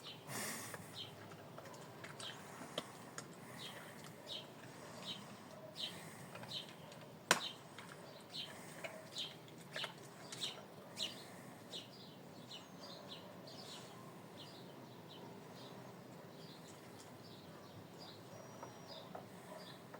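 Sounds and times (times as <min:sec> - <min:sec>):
bird chirping: 0:00.9 - 0:19.9.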